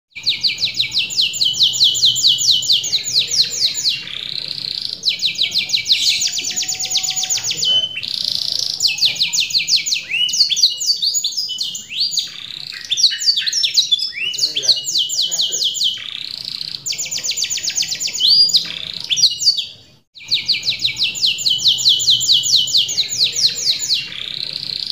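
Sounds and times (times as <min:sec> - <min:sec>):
canary singing trills: 0:00.1 - 0:24.9.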